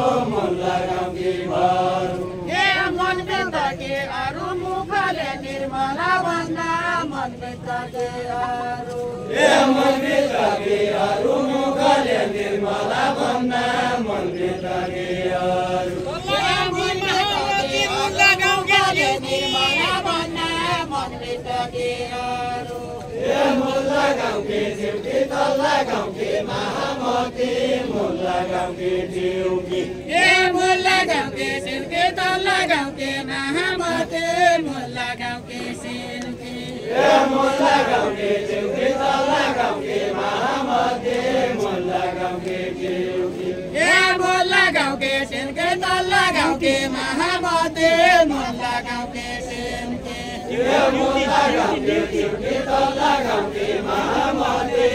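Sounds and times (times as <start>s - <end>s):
group singing unaccompanied: 0.0s - 54.9s.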